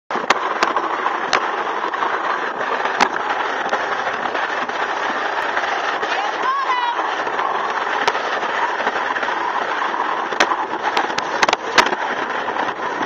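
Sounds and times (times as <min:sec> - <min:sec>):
sled scraping down concrete track: 0:00.1 - 0:13.0.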